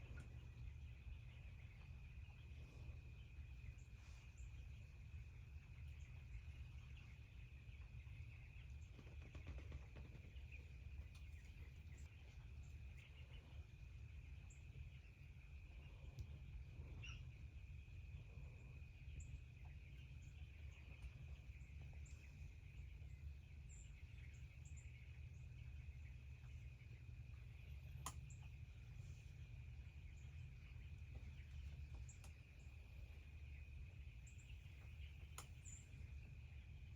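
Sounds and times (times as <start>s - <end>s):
faint bird chirps: 0.0s - 36.9s
faint high-pitched hum: 0.0s - 36.9s.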